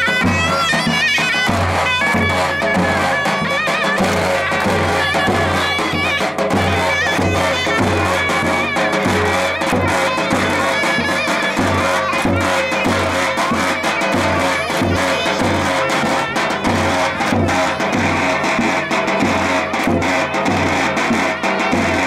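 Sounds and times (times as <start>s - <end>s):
large bass drum beat: 0.0s - 22.0s
shrill double-reed pipe melody: 0.0s - 22.0s.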